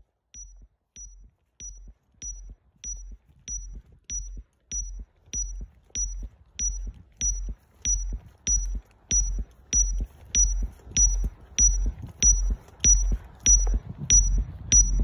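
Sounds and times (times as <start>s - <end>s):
receiver beeping pulses: 0.4s - 15.0s.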